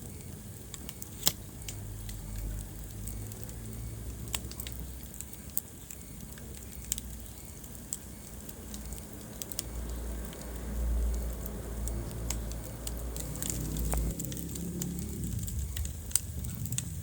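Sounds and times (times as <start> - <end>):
low rumble of flame: 0.0 - 17.0
wood fire crackling and popping: 0.0 - 17.0.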